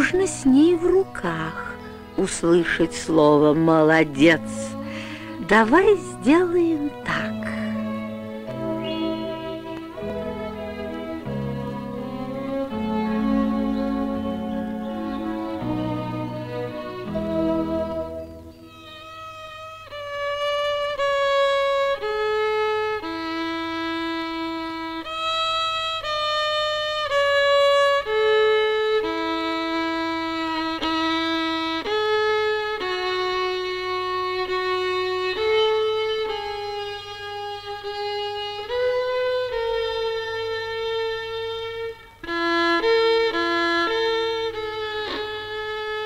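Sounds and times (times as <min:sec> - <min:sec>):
solo violin melody: 0:00.0 - 0:46.0.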